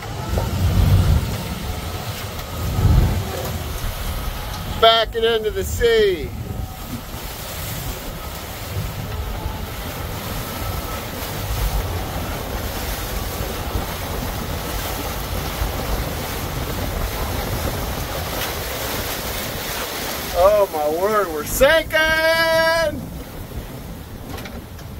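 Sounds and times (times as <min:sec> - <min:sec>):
seawater washing across deck: 0:00.0 - 0:24.9
wind buffeting microphone: 0:00.0 - 0:24.9.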